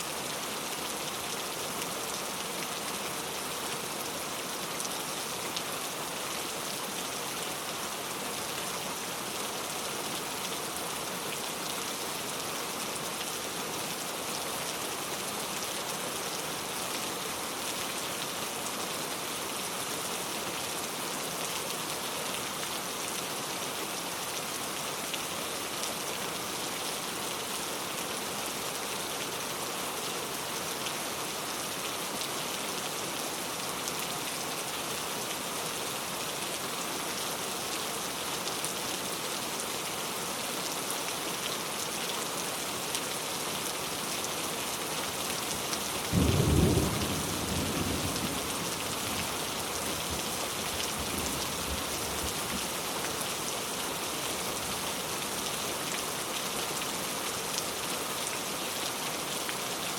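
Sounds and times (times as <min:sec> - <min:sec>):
heavy rain on a road: 0:00.0 - 0:59.9.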